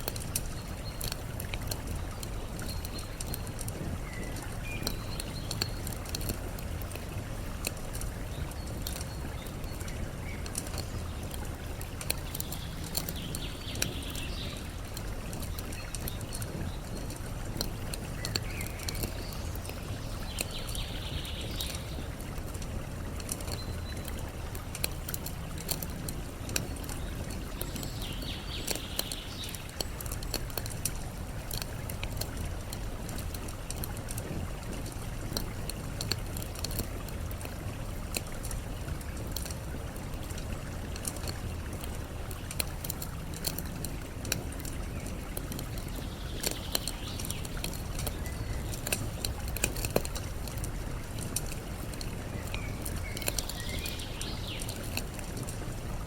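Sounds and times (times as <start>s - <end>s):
campfire crackling and popping: 0.0s - 56.0s
running water: 0.0s - 56.0s.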